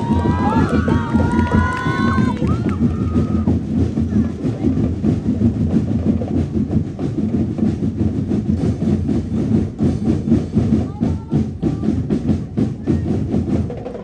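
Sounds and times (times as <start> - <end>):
bass drums marching beat: 0.0 - 14.0
snare drums: 0.0 - 14.0.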